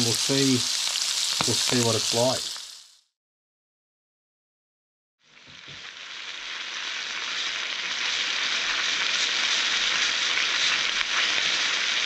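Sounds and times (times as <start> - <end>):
meat sizzling in a skillet: 0.0 - 3.0, 5.2 - 12.0.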